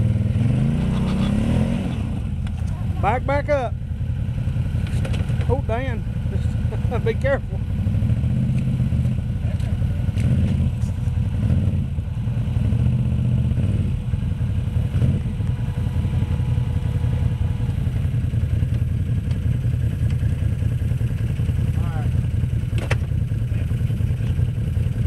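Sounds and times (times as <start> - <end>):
atv engine running at low revs: 0.0 - 25.0.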